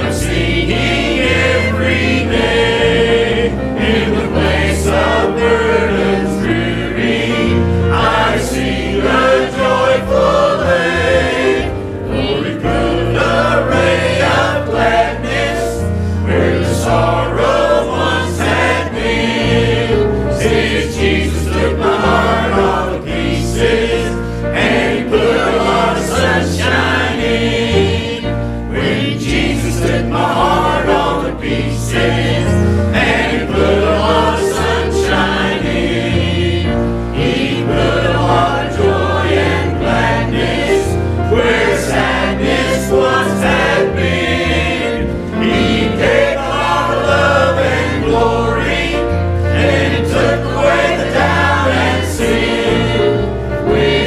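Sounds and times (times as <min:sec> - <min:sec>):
choir singing a hymn: 0:00.0 - 0:54.0
instrumental accompaniment: 0:00.0 - 0:54.0.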